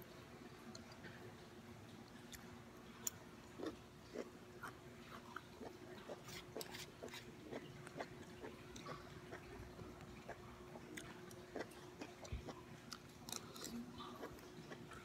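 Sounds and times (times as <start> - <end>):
faint steady hum: 0.0 - 15.0
chewing and mouth sounds: 2.0 - 15.0.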